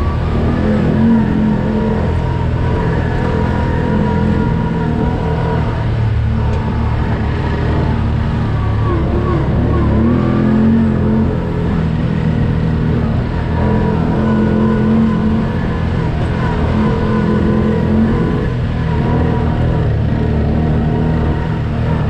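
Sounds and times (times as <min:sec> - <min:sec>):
off-road vehicle engine running: 0:00.0 - 0:22.0.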